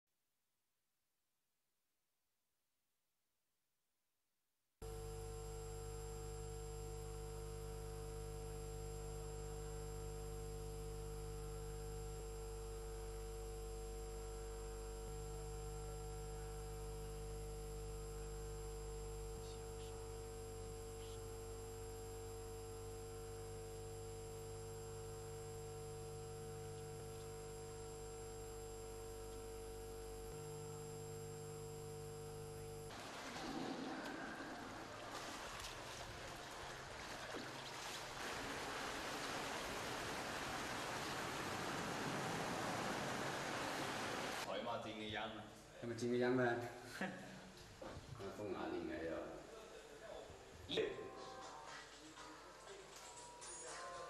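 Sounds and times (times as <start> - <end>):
electrical mains hum: 4.8 - 54.0.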